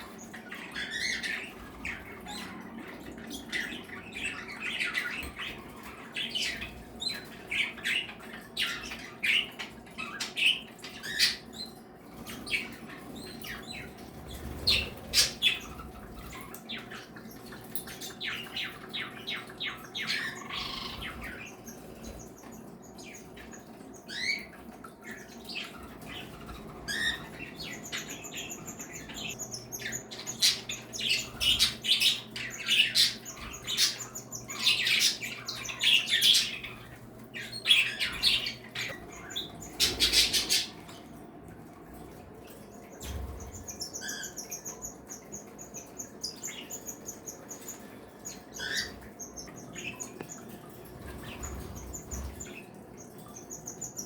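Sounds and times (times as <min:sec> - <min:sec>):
cage birds chirping and squawking: 0:00.0 - 0:54.0.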